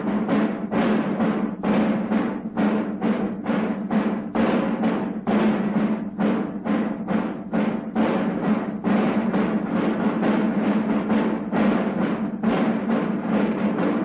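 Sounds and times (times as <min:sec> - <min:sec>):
military drums beating: 0:00.0 - 0:14.0.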